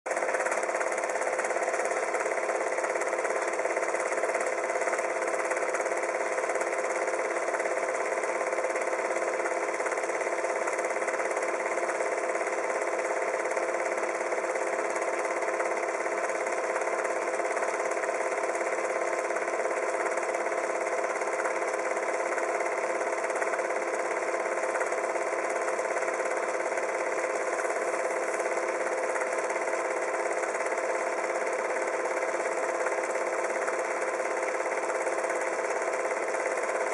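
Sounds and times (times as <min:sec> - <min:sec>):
steady mechanical whirr: 0:00.1 - 0:36.9.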